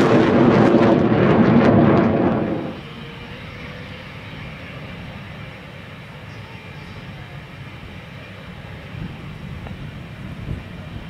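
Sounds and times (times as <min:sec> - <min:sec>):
jet flying past with crackling roar: 0:00.0 - 0:11.0
steady rumble with faint whine: 0:00.0 - 0:11.0.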